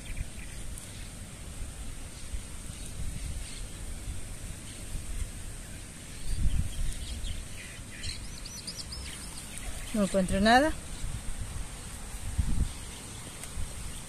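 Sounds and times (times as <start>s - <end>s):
birds singing: 0.0s - 1.2s, 2.1s - 11.3s, 12.5s - 14.0s.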